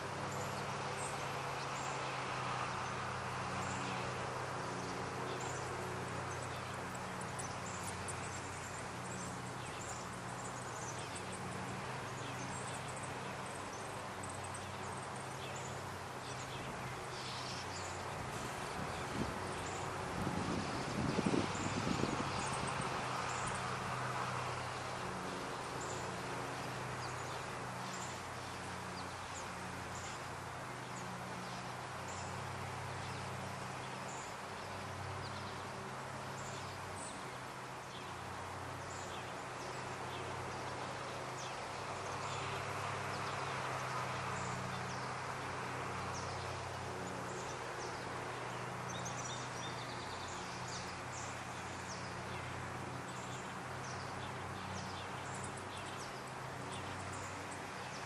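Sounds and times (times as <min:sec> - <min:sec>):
small birds chirping: 0:00.2 - 0:58.0.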